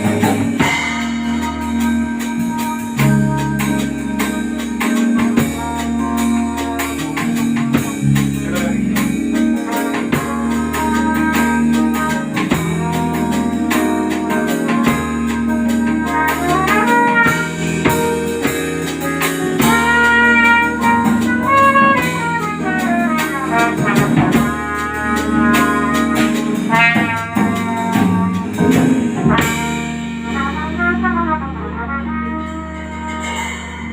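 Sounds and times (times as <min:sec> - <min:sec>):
drum hits: 0:00.0 - 0:31.5
band playing instrumental: 0:00.0 - 0:33.9.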